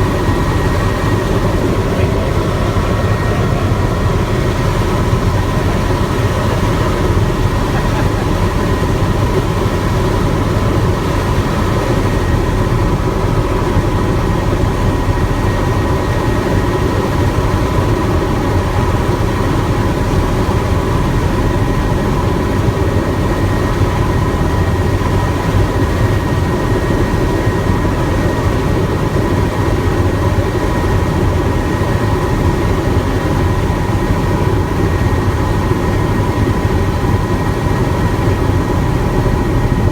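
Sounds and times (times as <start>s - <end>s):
helicopter rotor and engine: 0.0s - 39.9s
thin steady whine: 0.0s - 39.9s.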